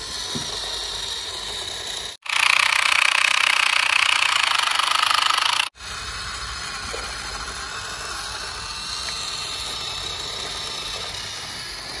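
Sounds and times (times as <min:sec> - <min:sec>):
toy car motor whirring: 0:00.0 - 0:12.0.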